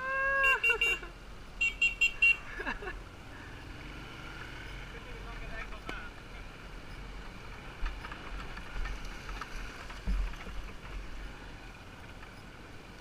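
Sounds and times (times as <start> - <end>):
motorbike engine: 2.2 - 13.0.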